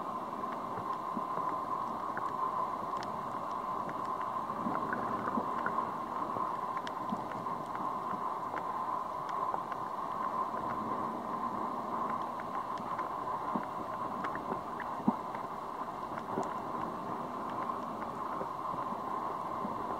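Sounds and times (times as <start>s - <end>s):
small clicks and crackles: 0.0s - 19.9s
underwater hiss: 0.0s - 19.9s.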